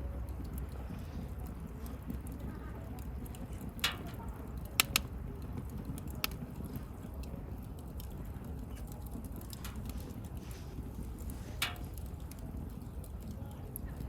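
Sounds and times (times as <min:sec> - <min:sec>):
bonfire rumble: 0:00.0 - 0:14.0
fire crackles and pops: 0:00.0 - 0:14.0.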